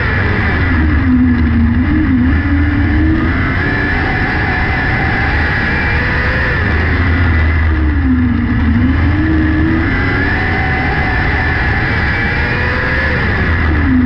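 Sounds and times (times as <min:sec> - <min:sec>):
racing car engine running hard: 0:00.0 - 0:14.0.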